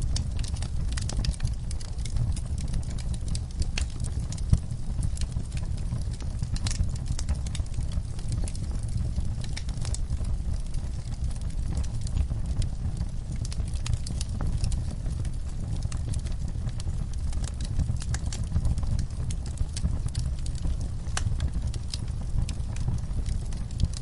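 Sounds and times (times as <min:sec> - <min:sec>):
burning wood crackling: 0:00.0 - 0:24.0
fire low rumble: 0:00.0 - 0:24.0.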